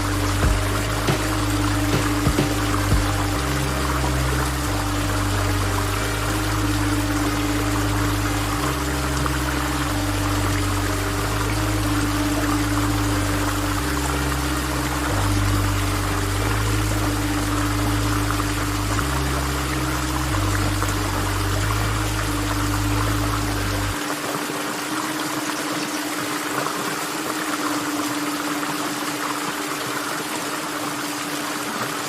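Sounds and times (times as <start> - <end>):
background music with deep bass: 0.0 - 32.0
waterfall rushing: 0.0 - 32.0.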